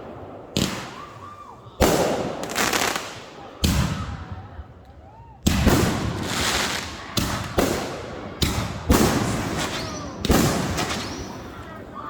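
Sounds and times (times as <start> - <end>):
fireworks bangs: 0.0 - 4.6, 5.4 - 12.0.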